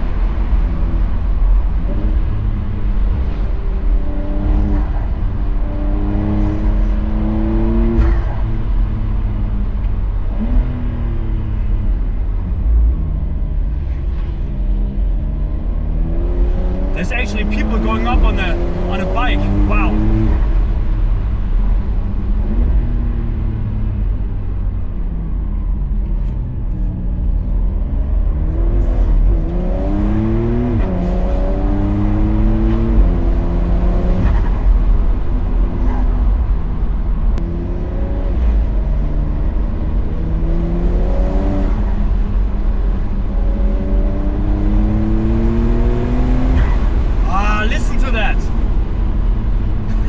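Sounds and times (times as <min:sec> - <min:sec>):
car engine accelerating through gears: 0:00.1 - 0:50.0.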